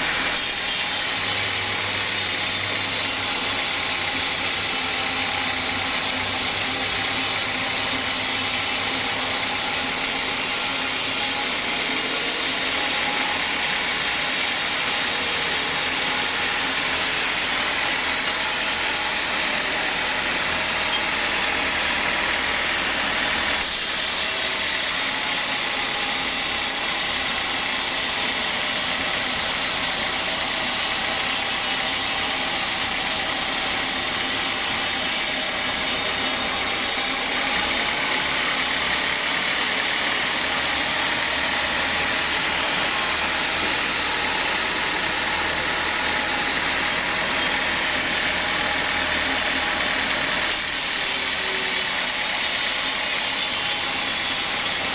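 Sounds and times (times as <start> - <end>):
bright hissy sawing sound: 0.0 - 54.9
sawmill saw cutting log: 0.0 - 54.9.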